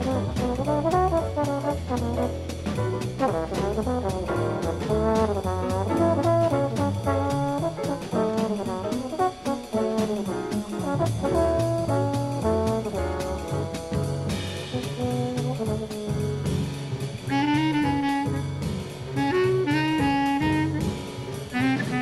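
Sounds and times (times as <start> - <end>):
brass horn solo: 0.0 - 2.4, 3.2 - 16.6, 17.3 - 22.0
bass line: 0.0 - 22.0
drums with cymbal strokes: 0.0 - 22.0.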